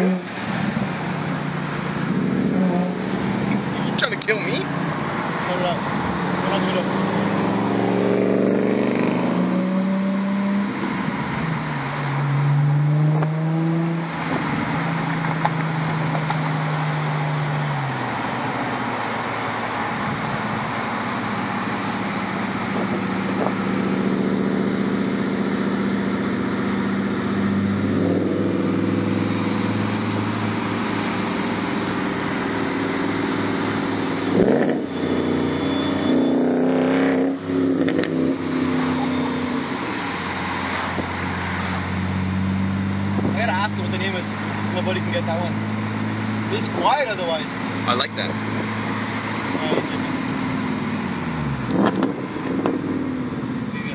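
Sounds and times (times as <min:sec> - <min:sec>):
car engine revving: 0:00.0 - 0:53.9
wind and road noise: 0:00.0 - 0:53.9.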